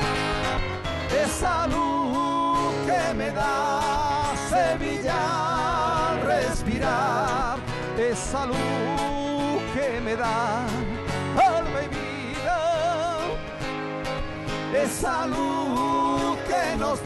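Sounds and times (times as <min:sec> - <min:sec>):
acoustic guitar: 0:00.0 - 0:17.0
keyboard playing chords: 0:00.0 - 0:17.0.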